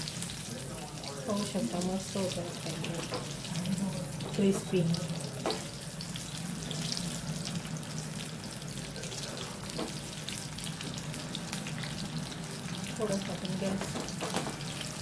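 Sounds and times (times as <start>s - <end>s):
fritters sizzling in oil: 0.0s - 15.0s.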